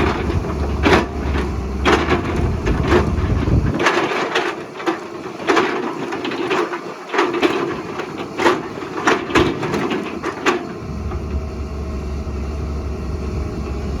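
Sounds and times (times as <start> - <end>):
excavator crunching and scraping rock: 0.0 - 11.5
excavator engine: 0.0 - 14.0.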